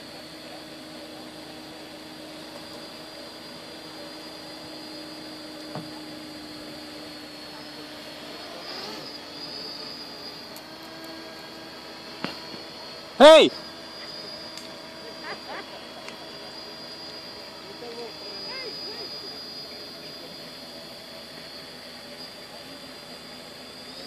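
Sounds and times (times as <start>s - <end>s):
drone motors humming: 0.0s - 24.0s.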